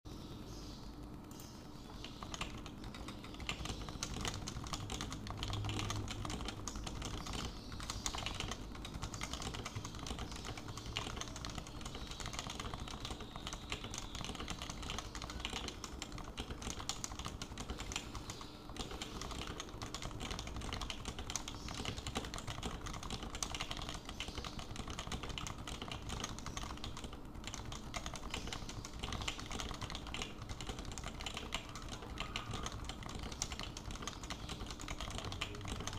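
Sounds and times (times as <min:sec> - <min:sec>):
fast keyboard typing: 0:00.5 - 0:35.9.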